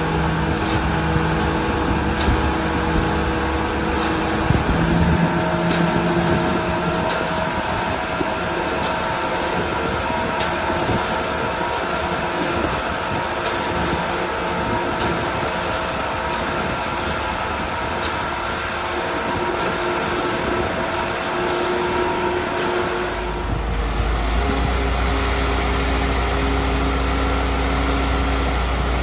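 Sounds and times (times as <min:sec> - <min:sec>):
concrete mixer engine running: 0:00.0 - 0:29.0
machinery whine: 0:00.0 - 0:29.0.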